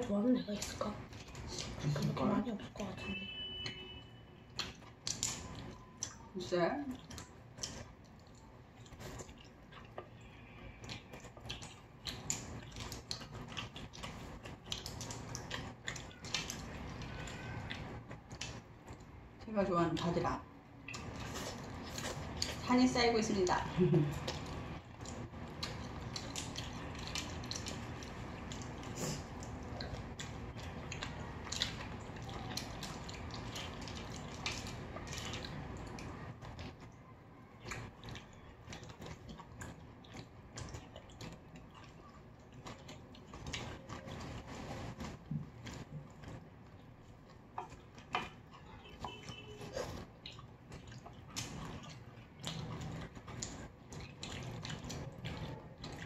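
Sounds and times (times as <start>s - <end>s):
wet chewing and slurping: 0.0s - 56.0s.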